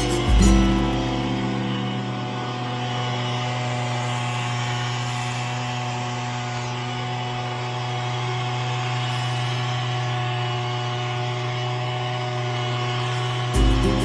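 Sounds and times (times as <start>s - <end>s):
two-stroke blower engine running: 0.0s - 14.0s.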